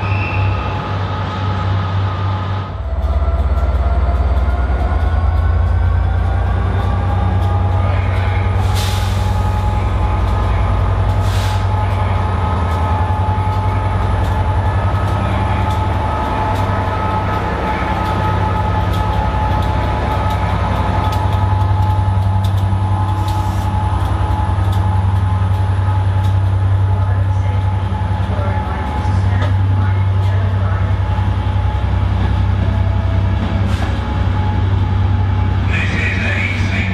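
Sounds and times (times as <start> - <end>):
diesel locomotive engine droning: 0.0 - 36.9.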